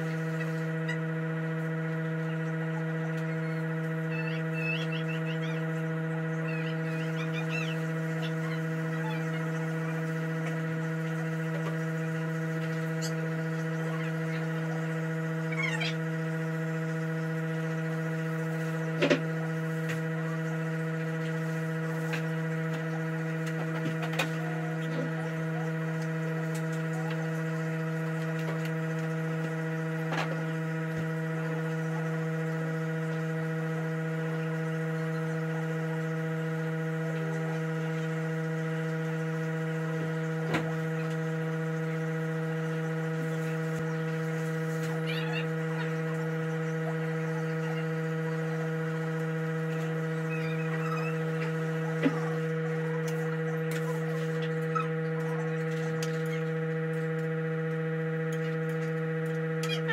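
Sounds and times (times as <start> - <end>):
buzzy electrical hum: 0.0 - 59.9.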